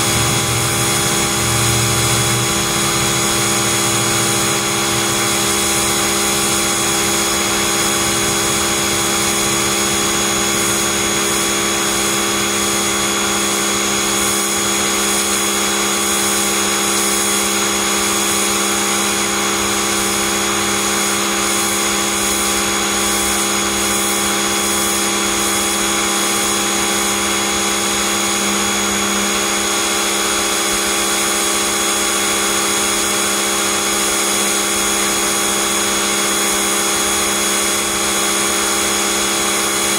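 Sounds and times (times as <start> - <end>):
pressure washer motor hum: 0.0 - 39.9
spray jet hissing on concrete: 0.0 - 39.9.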